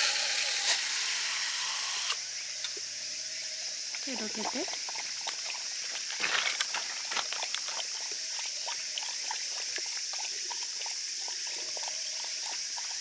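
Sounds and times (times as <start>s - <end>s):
bush crickets droning: 0.0s - 13.0s.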